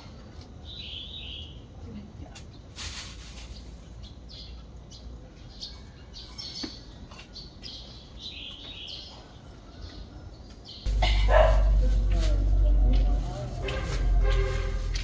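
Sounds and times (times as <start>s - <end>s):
small birds chirping: 0.1s - 13.8s.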